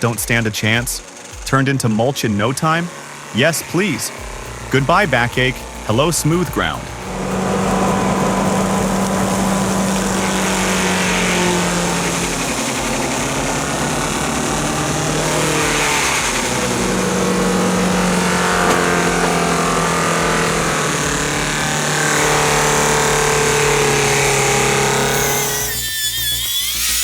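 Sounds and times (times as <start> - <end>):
mulcher engine drone: 0.0 - 27.0
rough grinding of stump: 0.0 - 27.0.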